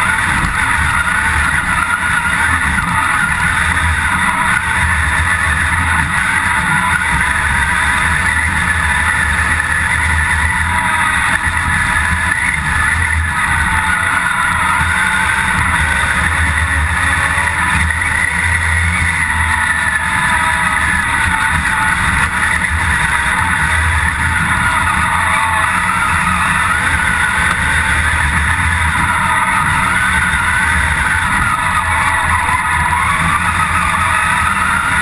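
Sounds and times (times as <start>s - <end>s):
engine running hard: 0.0s - 35.0s.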